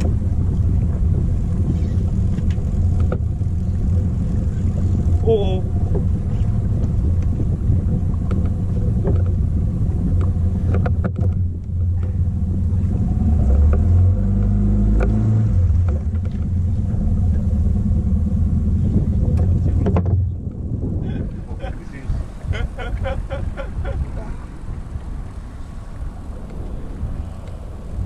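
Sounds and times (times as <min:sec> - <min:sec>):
boat engine rumbling: 0:00.0 - 0:28.0.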